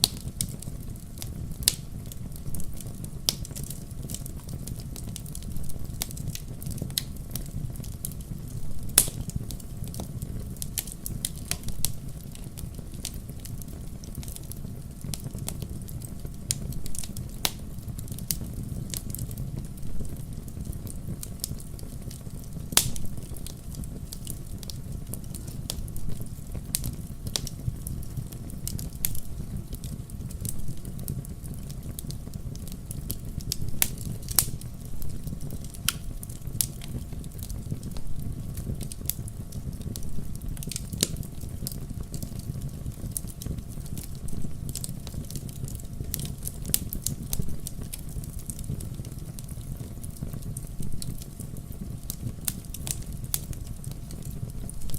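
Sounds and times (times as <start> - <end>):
fire crackling and popping: 0.0 - 54.9
low rumble of flames: 0.0 - 54.9.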